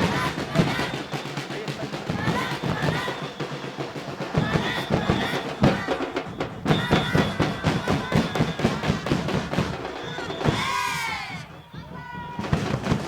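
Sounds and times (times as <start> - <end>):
voices singing: 0.0 - 12.6
drums beating: 0.0 - 13.0.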